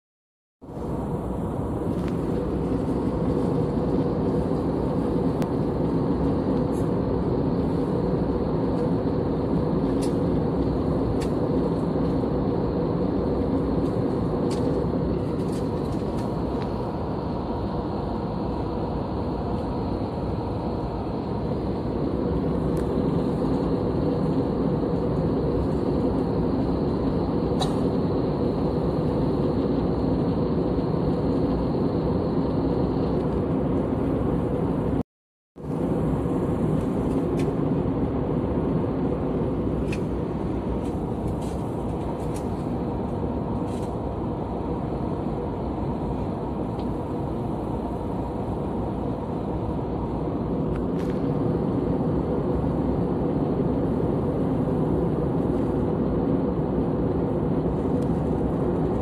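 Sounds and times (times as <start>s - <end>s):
faint steady hum: 0.6s - 35.0s, 35.6s - 59.0s
jet engine and airflow noise: 0.6s - 59.0s.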